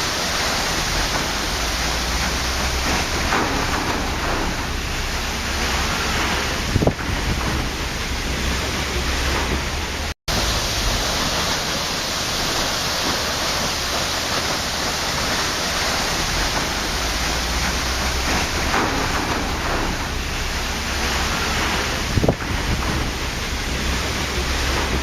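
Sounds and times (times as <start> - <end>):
waterfall rushing water: 0.0 - 25.0.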